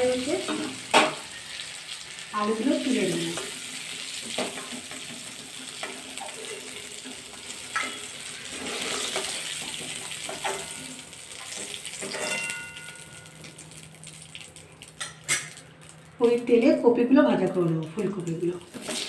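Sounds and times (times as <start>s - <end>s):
oil sizzling: 0.0s - 19.0s.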